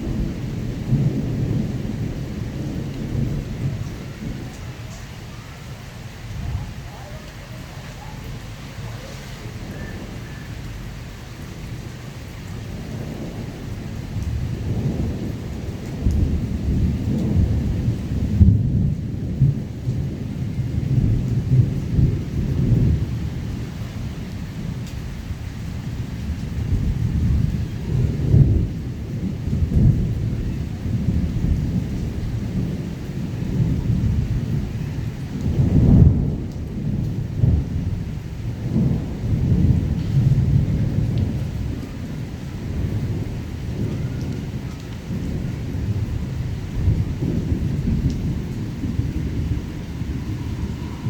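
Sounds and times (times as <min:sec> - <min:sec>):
heavy rain: 0:00.0 - 0:51.0
thunder rumbling: 0:00.0 - 0:51.0.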